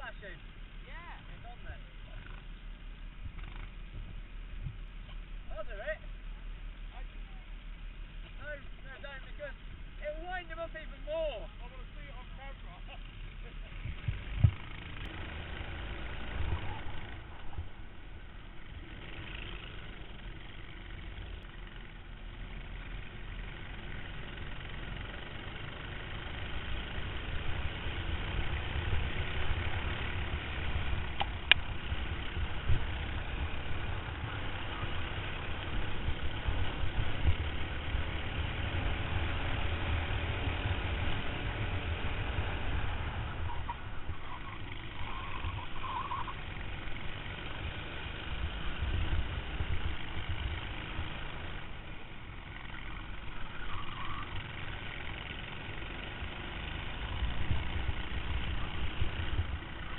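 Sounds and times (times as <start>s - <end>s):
go-kart engine: 0.0s - 59.9s.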